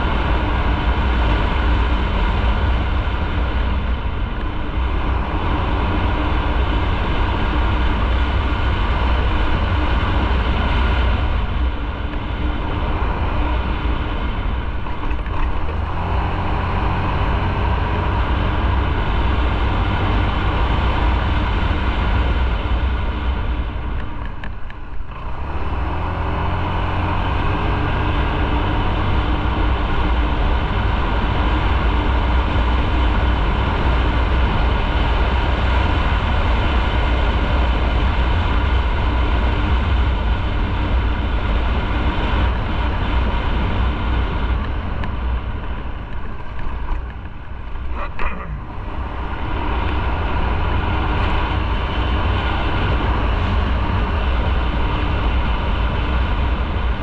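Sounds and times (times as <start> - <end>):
motorcycle engine rumble: 0.0 - 57.0.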